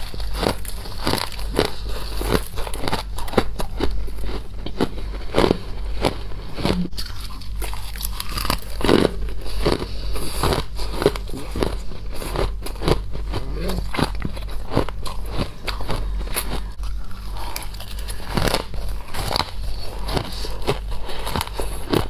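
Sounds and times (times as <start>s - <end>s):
frost crunching when bitten: 0.0s - 22.0s
steady low hum: 0.0s - 22.0s.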